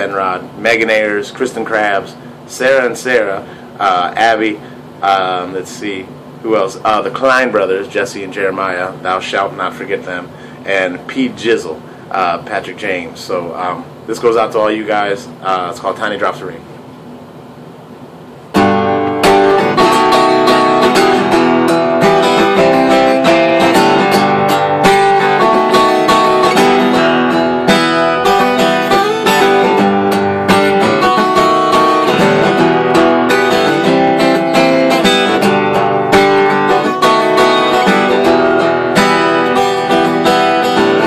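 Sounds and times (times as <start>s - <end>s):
acoustic guitar strumming: 0.0s - 12.8s, 18.5s - 41.0s.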